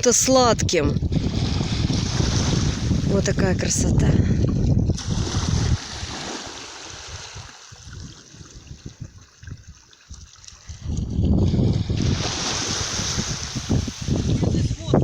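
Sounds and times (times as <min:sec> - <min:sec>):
wind buffeting microphone: 0:00.0 - 0:15.0
water lapping at shoreline: 0:00.9 - 0:15.0.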